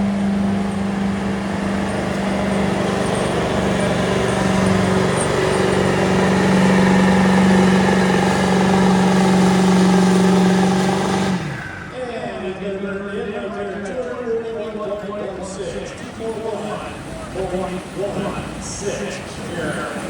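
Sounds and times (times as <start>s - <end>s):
diesel engine droning at high revs: 0.0s - 12.3s, 15.6s - 20.0s.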